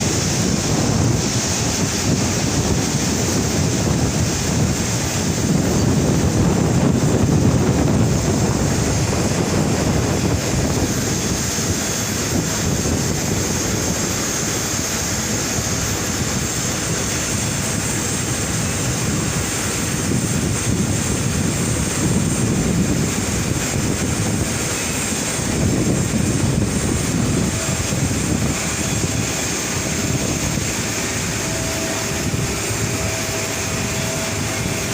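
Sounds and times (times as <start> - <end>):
jet engines whining: 0.0 - 34.9
wind buffeting microphone: 0.0 - 34.9.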